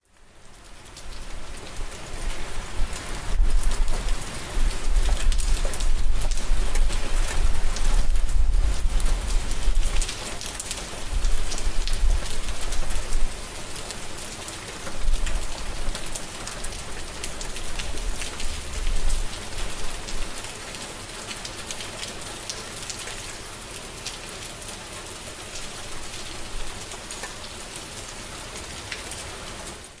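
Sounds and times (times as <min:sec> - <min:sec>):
rain pattering: 0:00.0 - 0:30.0.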